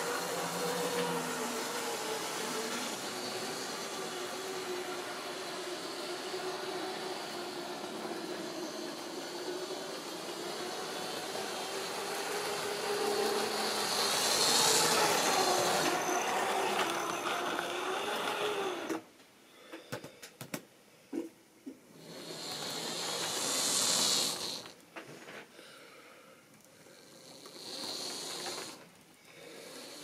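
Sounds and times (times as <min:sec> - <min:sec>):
model train motor humming: 0:00.0 - 0:19.1, 0:22.0 - 0:24.8, 0:26.9 - 0:30.0
wheels hissing on rails: 0:00.0 - 0:19.1, 0:22.0 - 0:24.8, 0:26.8 - 0:30.0.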